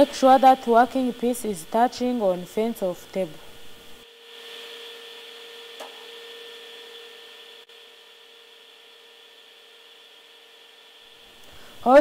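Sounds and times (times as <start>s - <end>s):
electric hum: 0.0s - 12.0s.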